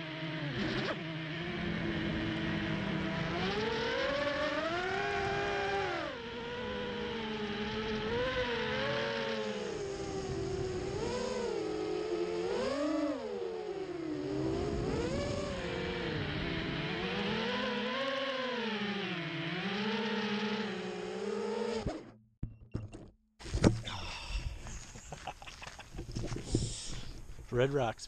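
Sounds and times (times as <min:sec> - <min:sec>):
quadcopter motors whining: 0:00.0 - 0:22.1, 0:23.6 - 0:27.5.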